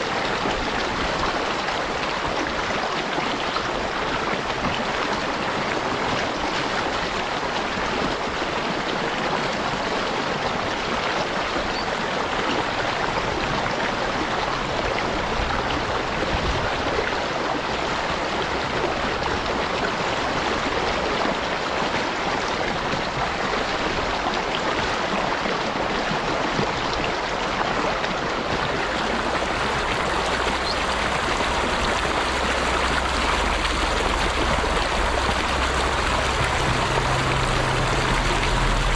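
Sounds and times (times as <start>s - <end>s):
stream rushing and babbling: 0.0s - 38.9s.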